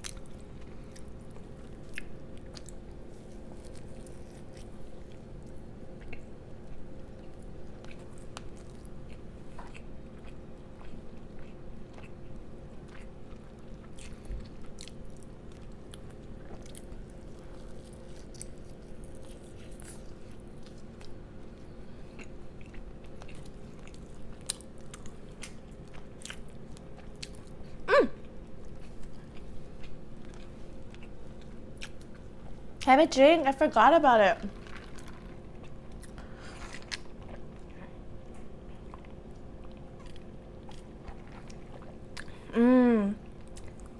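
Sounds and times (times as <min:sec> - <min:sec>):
chewing and biting: 0:00.0 - 0:32.9, 0:34.5 - 0:42.5, 0:43.3 - 0:43.9
low electrical hum: 0:00.0 - 0:43.9.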